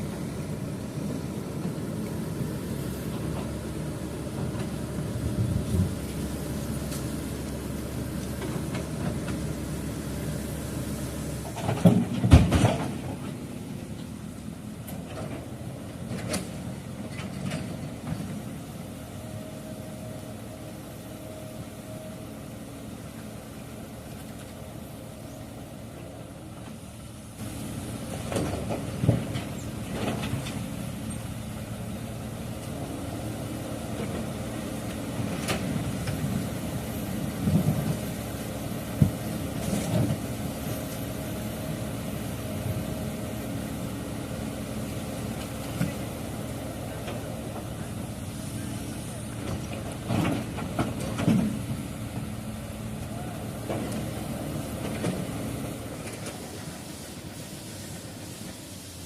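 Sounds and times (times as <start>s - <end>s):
construction machinery engine running: 0.0s - 59.0s.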